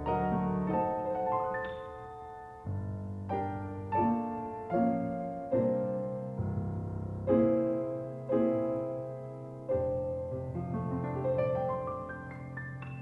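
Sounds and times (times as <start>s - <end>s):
solo piano chords: 0.0s - 13.0s.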